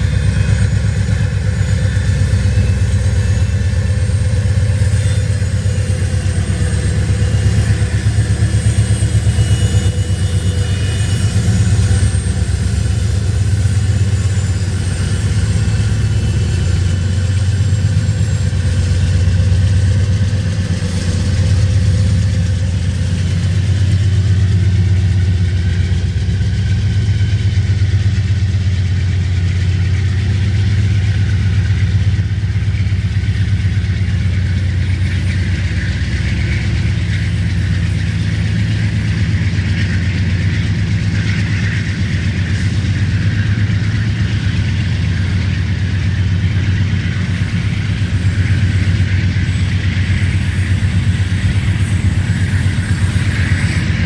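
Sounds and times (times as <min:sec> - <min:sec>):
locomotive engine rumble: 0:00.0 - 0:54.0
rolling rumble of freight cars: 0:00.0 - 0:54.0.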